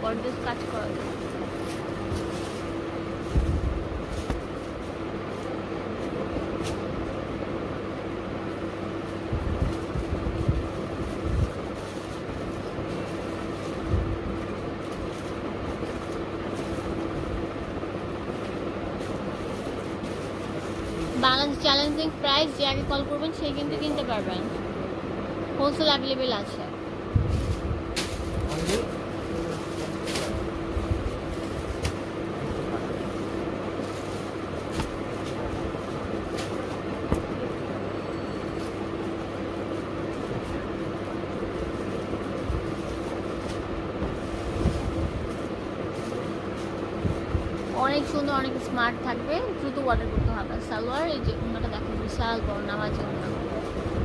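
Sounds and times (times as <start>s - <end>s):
constant low hum: 0.0s - 54.0s
rumbling background noise: 0.0s - 54.0s
cloth rustling: 0.1s - 7.0s, 8.5s - 24.6s, 27.0s - 48.7s.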